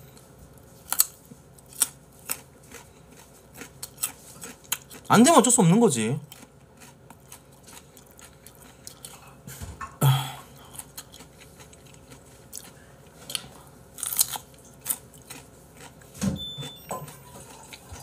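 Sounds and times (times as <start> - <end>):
carrot crunching: 0.1 - 9.4, 10.6 - 18.0.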